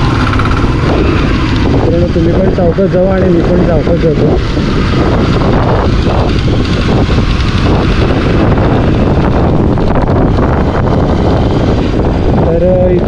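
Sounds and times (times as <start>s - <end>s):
motorcycle running: 0.0s - 13.0s
wind rush on microphone: 0.0s - 13.0s.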